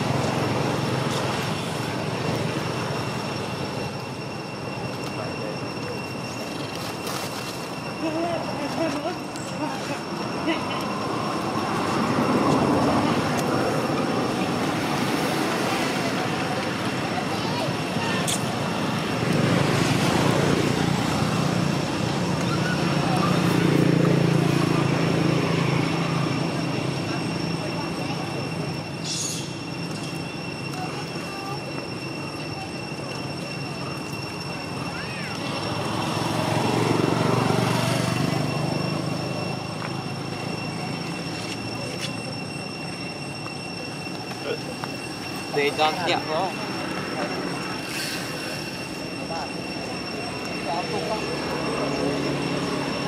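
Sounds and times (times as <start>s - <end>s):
faint high steady tone: 0.0s - 53.0s.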